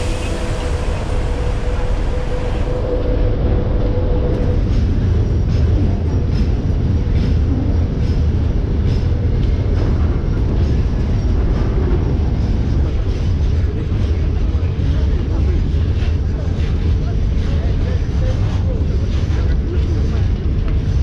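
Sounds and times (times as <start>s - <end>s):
train engine low rumble: 0.0s - 21.0s.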